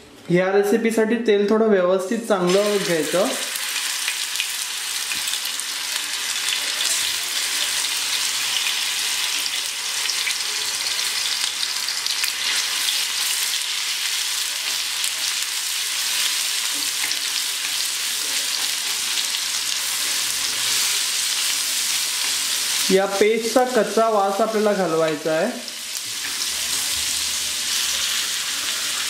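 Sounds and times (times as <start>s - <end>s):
paste sizzling in hot oil: 2.5s - 24.4s, 25.5s - 29.0s.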